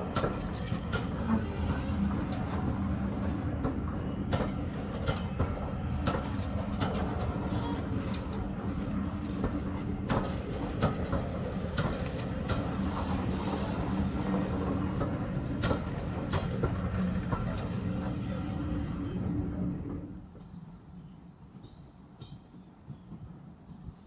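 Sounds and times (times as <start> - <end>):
wheels clicking over rail joints: 0.0 - 20.3
train wheels rumbling: 0.0 - 20.6.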